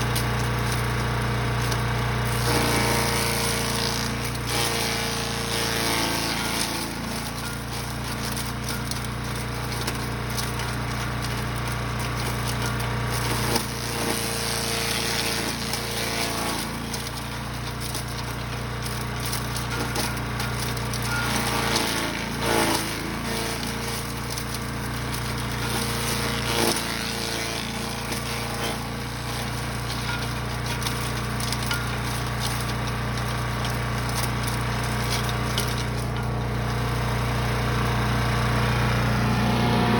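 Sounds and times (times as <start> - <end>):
material cracking through chipper: 0.0 - 39.1
wood chipper engine running: 0.0 - 39.9.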